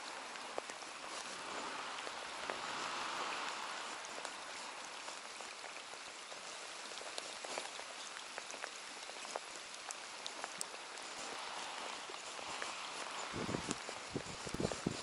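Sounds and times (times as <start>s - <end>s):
rain falling on a lake: 0.0s - 15.0s.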